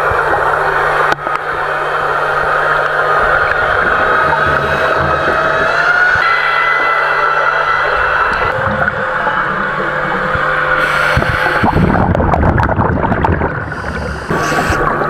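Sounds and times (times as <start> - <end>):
crackling bubbles: 0.0 - 6.2, 7.4 - 15.0
low underwater rumble: 0.0 - 15.0
underwater motorboat engine whine: 0.0 - 15.0.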